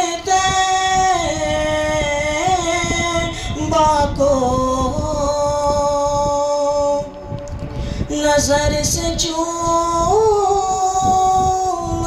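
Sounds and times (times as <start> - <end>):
boy singing into microphone: 0.0 - 12.0.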